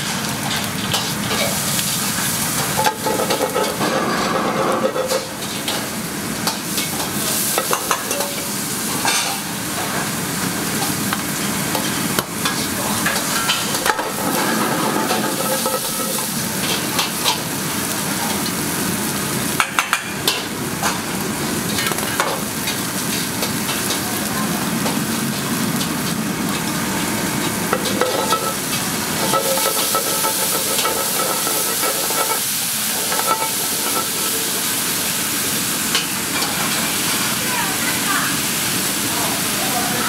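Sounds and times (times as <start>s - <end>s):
beef sizzling in a frying pan: 0.0s - 40.0s.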